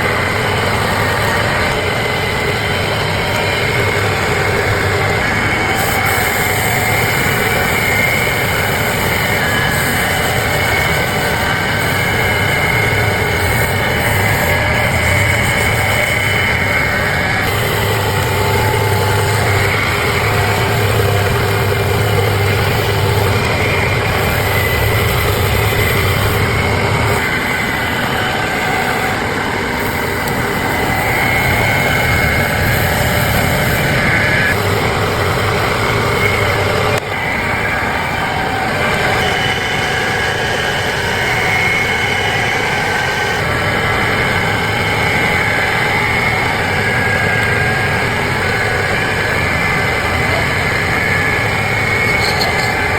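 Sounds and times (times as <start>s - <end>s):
power tools working wood: 0.0s - 52.9s.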